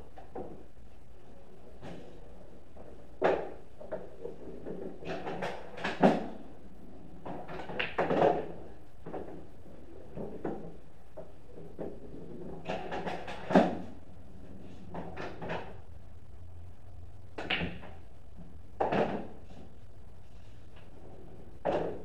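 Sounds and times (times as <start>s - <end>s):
pool balls clacking: 0.0s - 0.7s, 1.6s - 15.9s, 17.3s - 19.7s, 20.8s - 22.0s.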